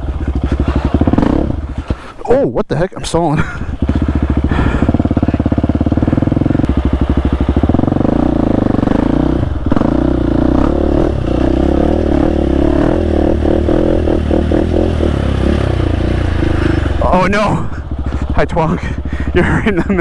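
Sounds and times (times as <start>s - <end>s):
motorcycle engine chugging: 0.0s - 20.0s.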